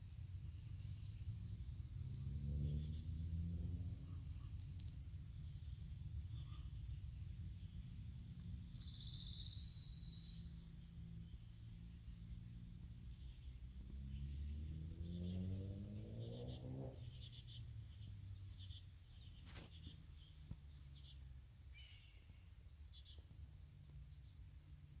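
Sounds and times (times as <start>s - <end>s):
low steady rumble: 0.0s - 25.0s
small birds chirping: 0.0s - 25.0s.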